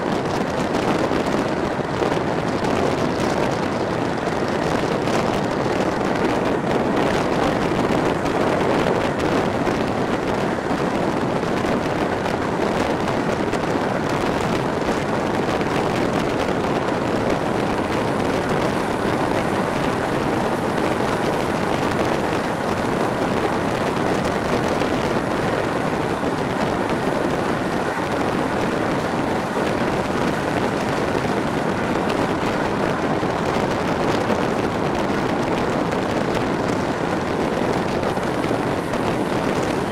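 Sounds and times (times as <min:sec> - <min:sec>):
train wheels rolling on rails: 0:00.0 - 0:39.9
wind rushing over microphone: 0:00.0 - 0:39.9.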